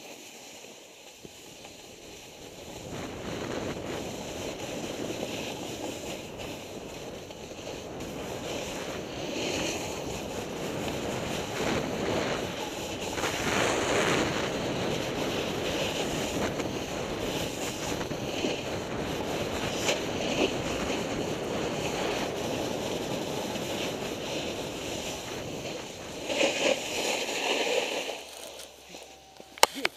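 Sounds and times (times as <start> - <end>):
snowboard scraping across snow: 0.0 - 29.6
wind buffeting microphone: 2.0 - 27.0.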